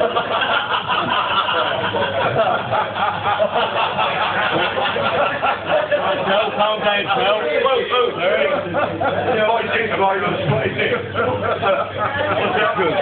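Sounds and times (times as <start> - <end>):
people laughing and chattering: 0.0 - 13.0.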